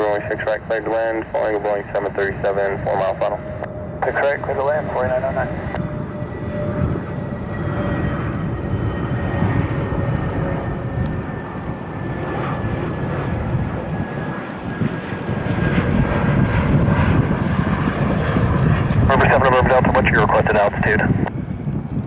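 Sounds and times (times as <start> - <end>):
jet engines whining: 0.0 - 22.0
steady rumble: 0.0 - 22.0.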